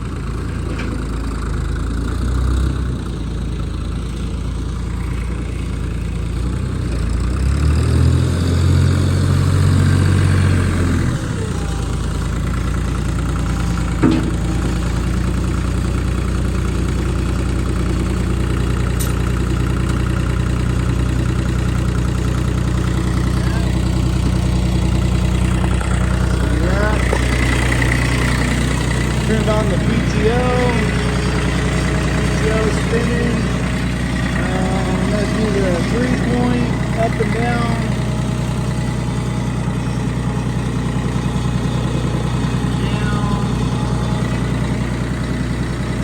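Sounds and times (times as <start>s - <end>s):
diesel tractor engine idling: 0.0s - 46.0s.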